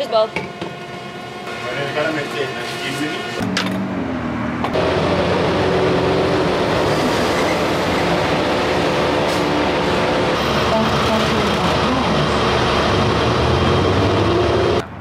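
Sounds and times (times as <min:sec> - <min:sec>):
bus engine and road noise: 0:00.6 - 0:15.0.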